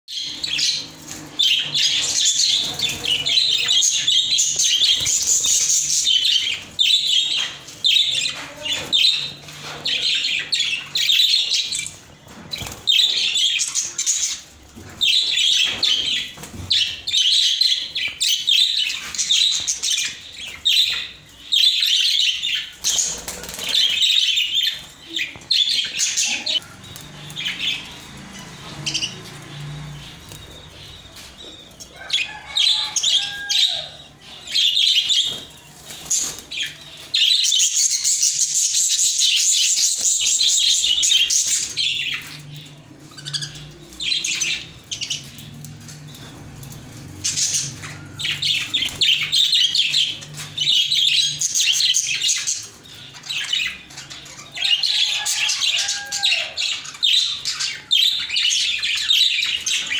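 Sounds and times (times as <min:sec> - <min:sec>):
budgerigars chattering and chirping: 0:00.1 - 0:59.9.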